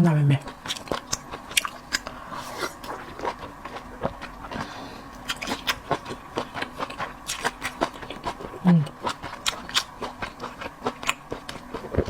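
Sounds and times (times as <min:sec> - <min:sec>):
person chewing wetly: 0:00.4 - 0:12.0.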